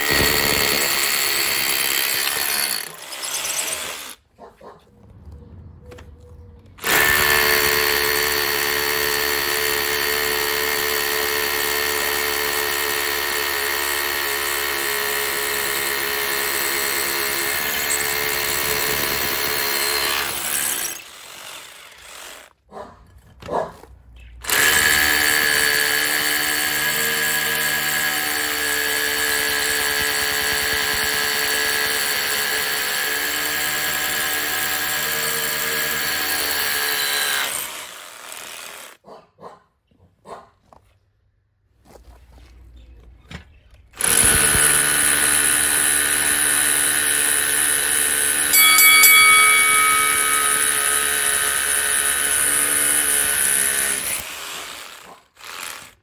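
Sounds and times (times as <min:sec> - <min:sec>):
hammer drill boring into brick: 0:00.0 - 0:04.2, 0:06.8 - 0:22.6, 0:24.4 - 0:39.0, 0:44.0 - 0:56.0.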